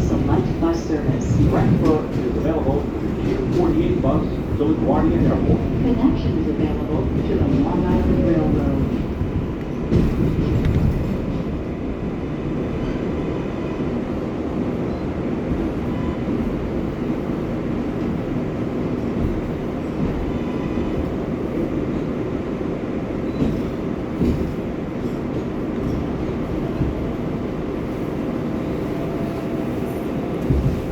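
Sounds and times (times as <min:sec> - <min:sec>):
subway train rumbling on rails: 0:00.0 - 0:30.9.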